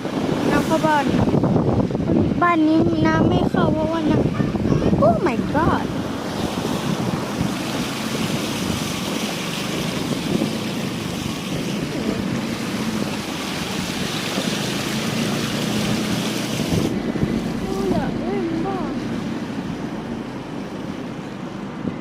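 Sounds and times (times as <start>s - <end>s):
floodwater splashing: 0.0s - 22.0s
low engine hum: 0.0s - 22.0s
wind buffeting microphone: 0.0s - 22.0s.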